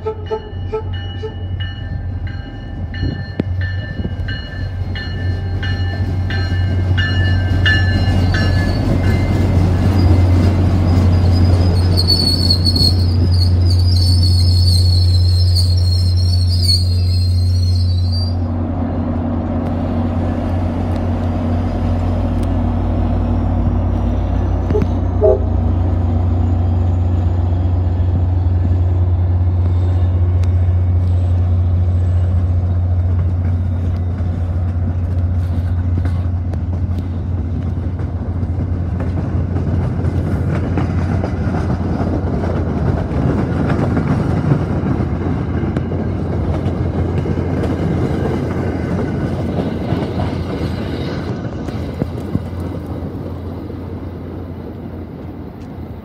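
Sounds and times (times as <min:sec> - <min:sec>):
diesel locomotive drone: 0:00.0 - 0:56.0
train wheels rumbling on rails: 0:00.0 - 0:56.0.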